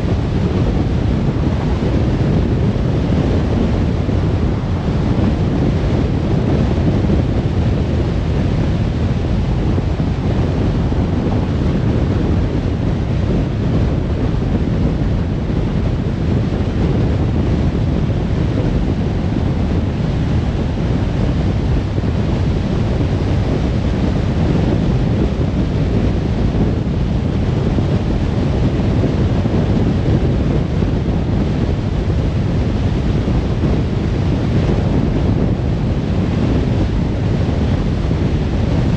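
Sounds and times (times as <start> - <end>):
road and wind noise in car: 0.0 - 38.9.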